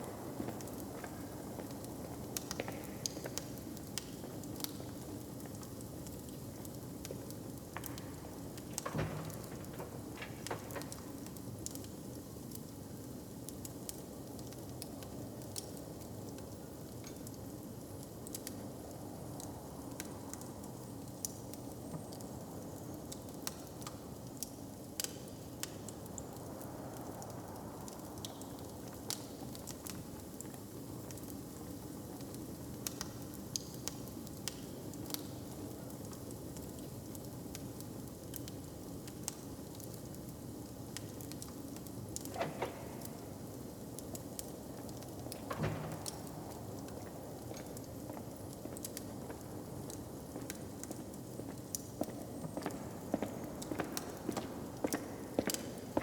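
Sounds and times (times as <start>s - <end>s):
open fire crackling: 0.0s - 56.0s.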